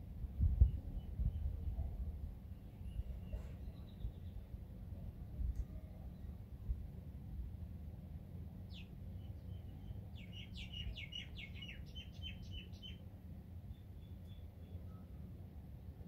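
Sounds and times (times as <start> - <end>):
low steady rumble: 0.0 - 16.0
songbird singing: 0.3 - 6.6, 8.6 - 15.4.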